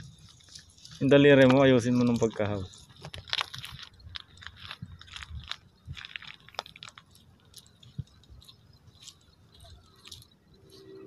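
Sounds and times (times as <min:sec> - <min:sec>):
net mesh crackling and clicking: 0:00.1 - 0:10.3.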